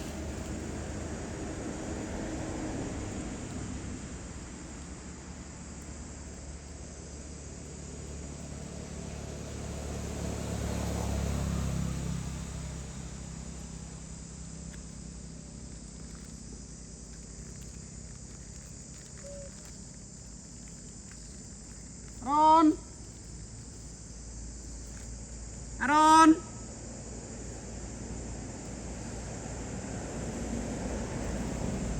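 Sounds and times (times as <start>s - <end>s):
vehicle passing rumble: 0.0s - 31.9s
insect chirring: 4.2s - 31.9s.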